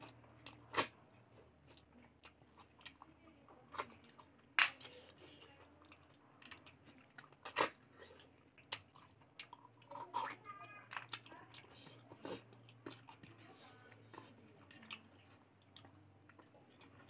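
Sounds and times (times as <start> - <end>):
person chewing with smacks: 0.0 - 3.2, 3.8 - 9.9, 11.0 - 17.0.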